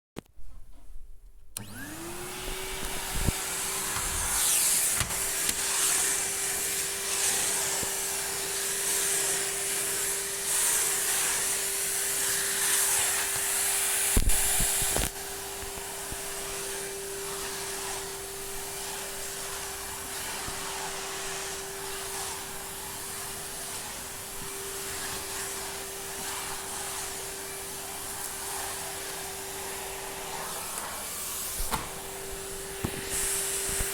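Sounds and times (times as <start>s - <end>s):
vacuum cleaner motor whining: 1.6s - 33.9s
vacuum suction hiss: 1.6s - 33.9s.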